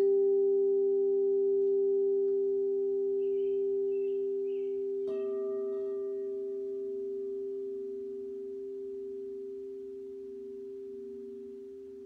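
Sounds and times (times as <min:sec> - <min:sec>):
bowl struck: 0:00.0 - 0:12.0
crystal singing bowls ringing: 0:00.0 - 0:12.0.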